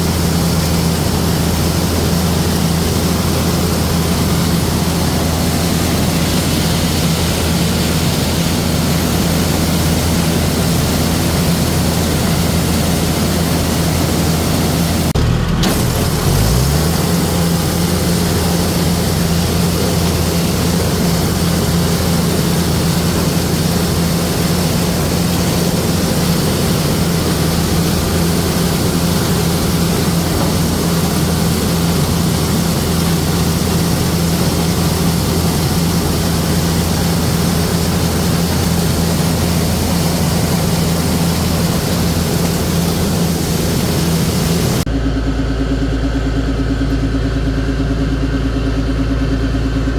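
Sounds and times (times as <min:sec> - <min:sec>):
farm machinery engine under load: 0:00.0 - 0:49.9.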